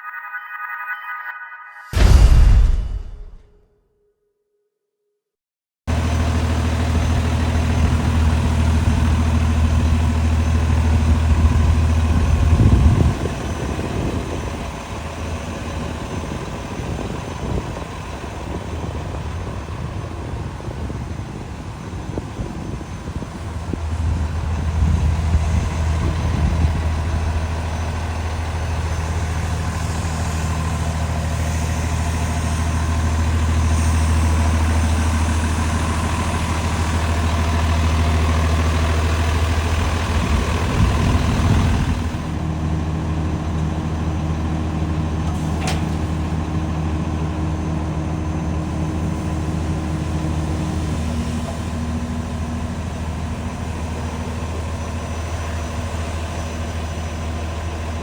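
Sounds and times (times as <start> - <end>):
diesel truck engine idling: 5.9 - 58.0.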